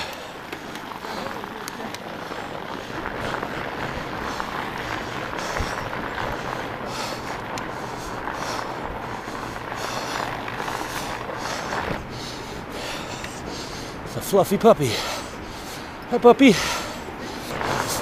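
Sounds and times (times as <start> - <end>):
bike tyres rolling over snow: 0.0 - 18.0.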